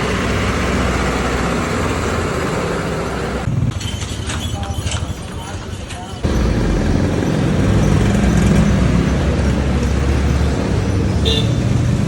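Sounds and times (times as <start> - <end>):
street traffic noise: 0.0 - 12.0
vehicle engine rumbling: 0.0 - 12.0.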